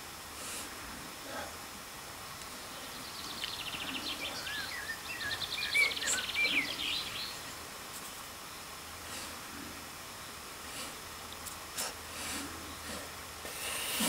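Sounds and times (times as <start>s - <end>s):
outdoor background hiss: 0.0s - 14.0s
songbird singing: 2.2s - 13.9s.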